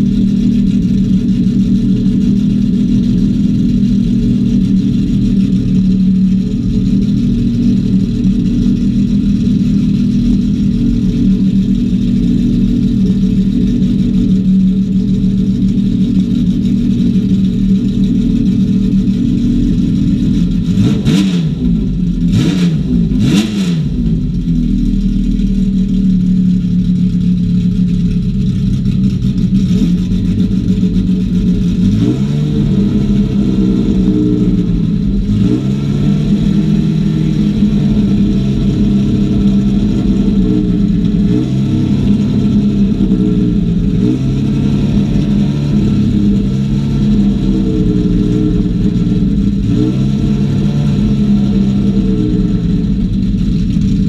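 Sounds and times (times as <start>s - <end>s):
engine throttle blips: 0.0s - 54.0s
race car engine idling: 0.0s - 54.0s.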